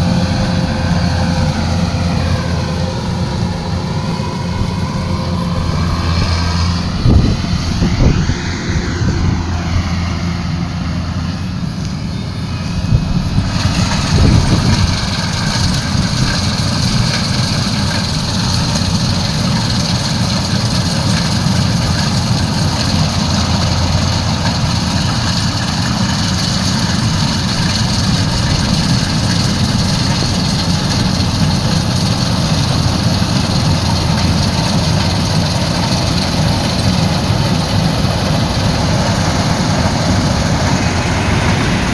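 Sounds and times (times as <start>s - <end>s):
combine harvester diesel engine: 0.0s - 41.9s.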